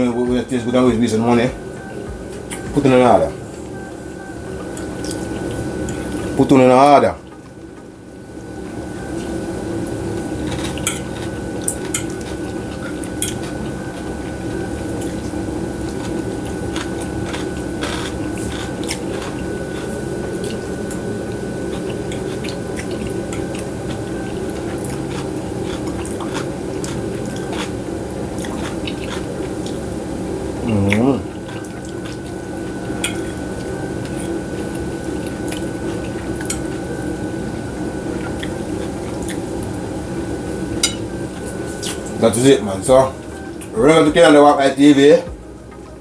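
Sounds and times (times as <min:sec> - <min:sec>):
low hum: 0:00.0 - 0:44.2.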